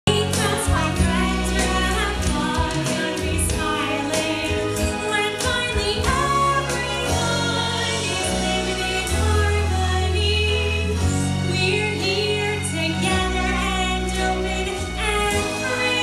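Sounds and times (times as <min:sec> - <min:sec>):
show music with singing: 0:00.1 - 0:16.0.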